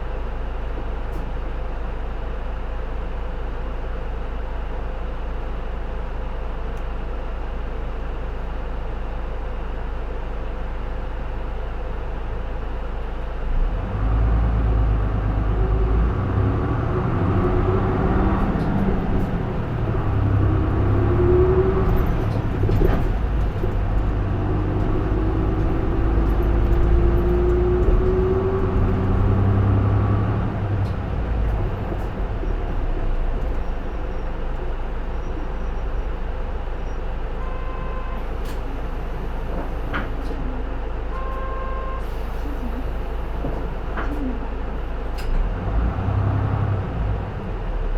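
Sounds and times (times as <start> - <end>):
bus diesel engine under load: 0.0 - 47.9.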